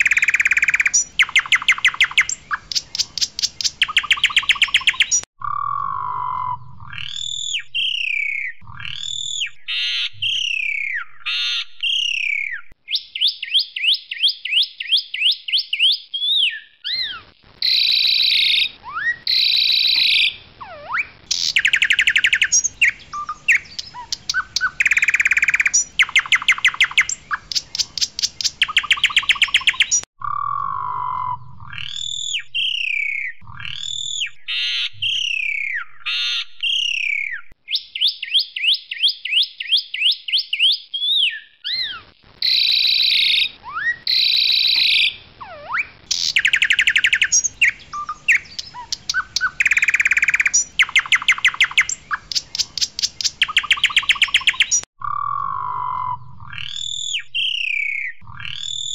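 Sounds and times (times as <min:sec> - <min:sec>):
starling singing: 0:00.0 - 0:14.6, 0:15.2 - 0:38.1, 0:41.2 - 0:58.9.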